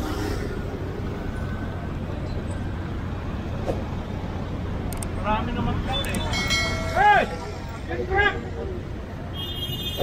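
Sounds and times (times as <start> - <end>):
vehicle engine humming: 0.0 - 9.4
street traffic noise: 0.0 - 10.0.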